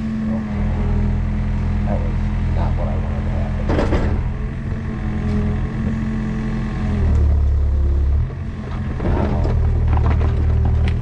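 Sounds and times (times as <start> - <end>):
mini excavator engine running: 0.0 - 11.0.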